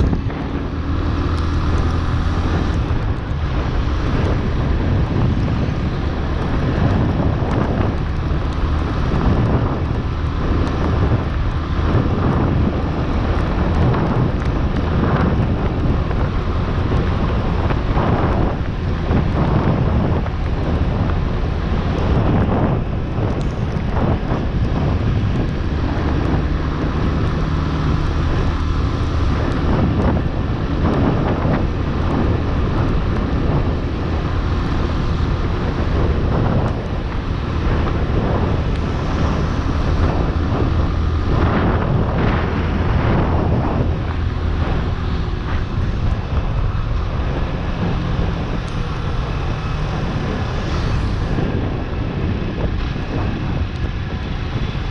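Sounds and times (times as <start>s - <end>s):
motorcycle engine running: 0.0s - 54.9s
wind buffeting microphone: 0.0s - 54.9s.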